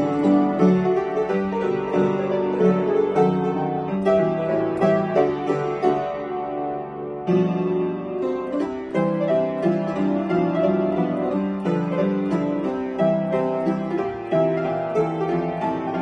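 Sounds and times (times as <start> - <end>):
upright piano playing: 0.0 - 16.0.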